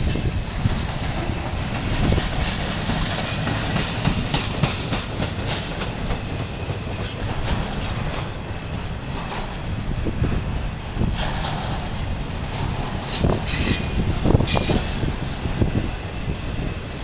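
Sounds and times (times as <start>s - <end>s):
train wheels clattering on rails: 0.0s - 17.0s.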